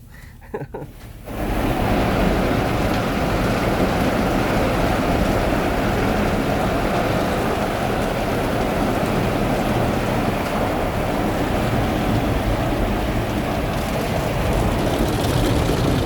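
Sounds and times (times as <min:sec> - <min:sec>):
car wash water spray rushing: 0:00.8 - 0:16.0.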